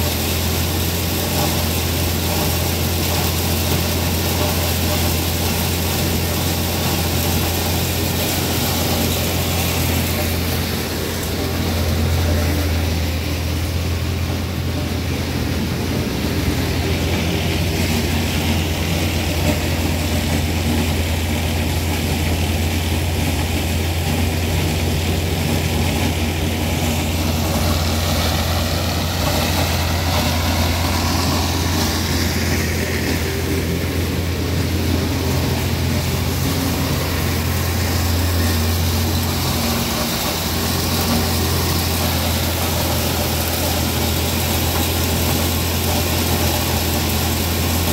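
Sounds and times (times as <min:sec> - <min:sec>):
corn being milled and blown: 0:00.0 - 0:47.9
tractor engine droning: 0:00.0 - 0:47.9.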